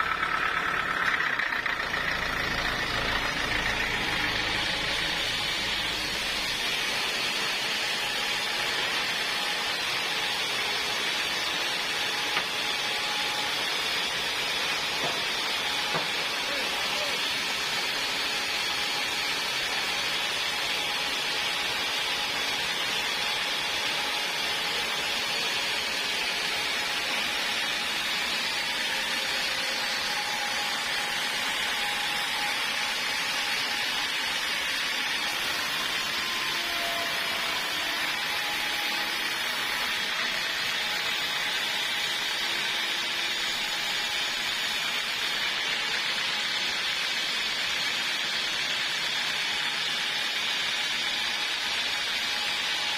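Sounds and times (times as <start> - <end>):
sawmill sawing through log: 0.0 - 52.9.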